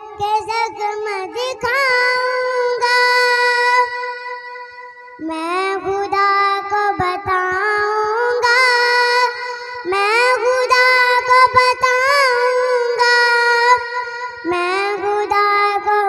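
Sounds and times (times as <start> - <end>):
high voice singing wordless melody: 0.0 - 16.0.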